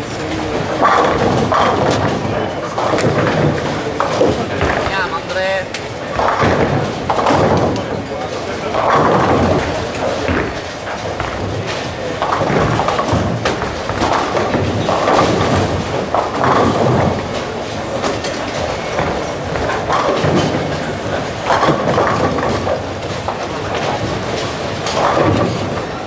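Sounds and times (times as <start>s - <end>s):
background chatter: 0.0s - 26.0s
bowling balls rolling: 0.0s - 26.0s
bowling pins crashing: 0.0s - 26.0s.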